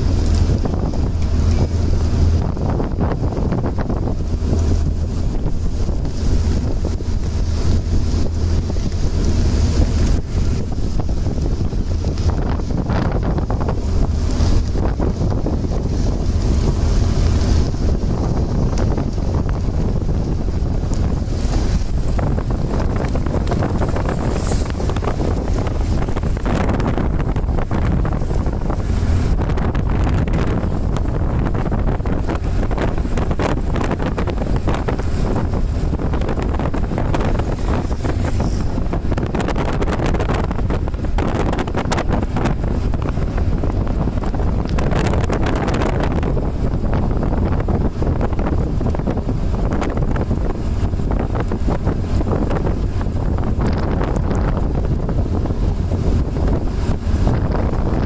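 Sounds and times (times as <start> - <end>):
low road rumble: 0.0 - 58.0
wind buffeting microphone: 0.0 - 58.0.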